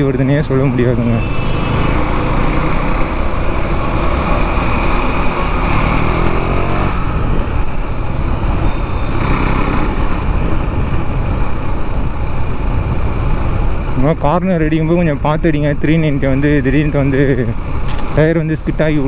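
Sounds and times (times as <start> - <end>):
riding wind rush: 0.0 - 19.0
motorcycle engine running: 0.2 - 19.0.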